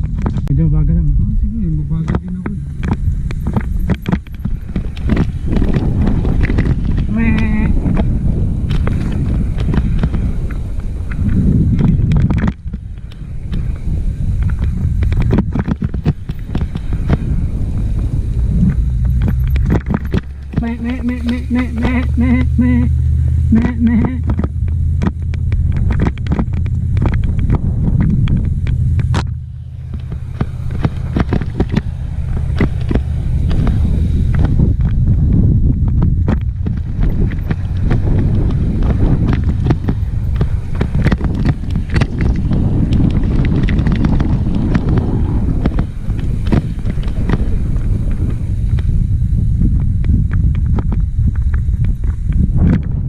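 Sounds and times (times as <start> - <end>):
wind rumbling on microphone: 0.0 - 53.0
bike frame and chain rattling: 2.6 - 20.7, 22.9 - 52.5.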